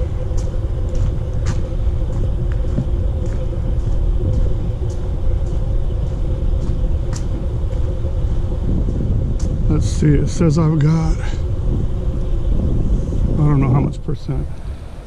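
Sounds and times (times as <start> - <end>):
footsteps on trail: 0.0 - 12.8
faint steady hum: 0.0 - 15.0
low rumble: 0.0 - 15.0.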